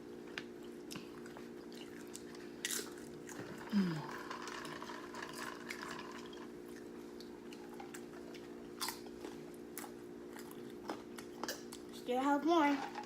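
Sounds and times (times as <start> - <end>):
steady low hum: 0.0 - 13.0
person chewing crunchy chips: 0.6 - 12.0.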